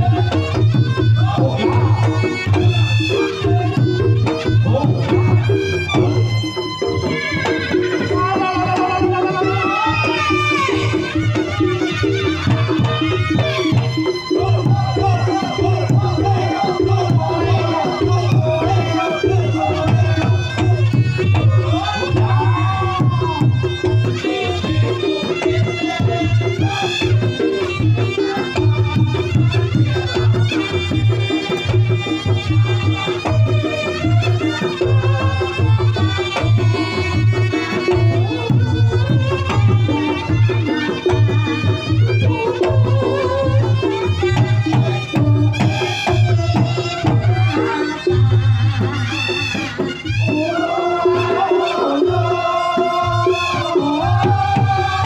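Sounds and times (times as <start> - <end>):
fast hand drum strokes: 0.0 - 55.0
shawm melody with bending notes: 0.0 - 55.0.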